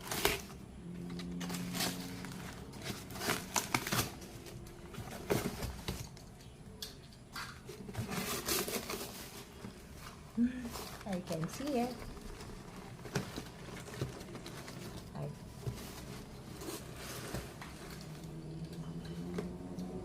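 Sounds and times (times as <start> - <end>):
clicks and rustles: 0.0 - 20.0
packaging crinkling and tearing: 0.0 - 20.0.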